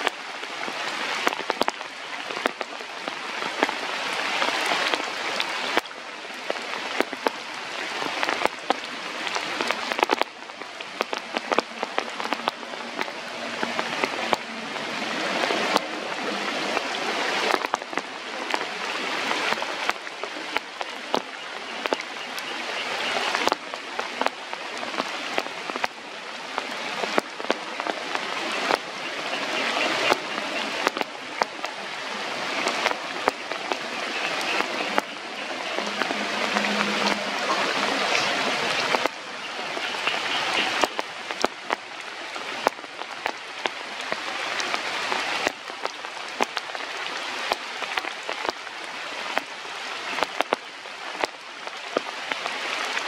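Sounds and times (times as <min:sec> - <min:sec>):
raindrops ticking close by: 0:00.0 - 0:53.0
steady rain hiss: 0:00.0 - 0:53.0.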